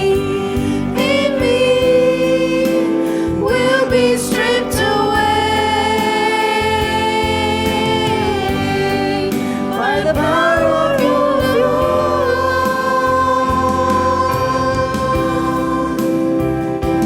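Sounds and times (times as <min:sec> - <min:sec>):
congregation singing: 0:00.0 - 0:17.0
musical accompaniment: 0:00.0 - 0:17.0.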